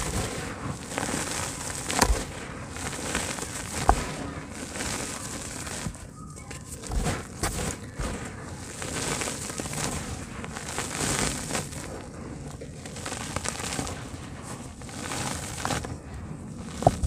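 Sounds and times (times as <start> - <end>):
dirt pouring onto pile: 0.0 - 6.1, 6.8 - 17.0
dry dirt crumbled by hand: 0.0 - 17.0.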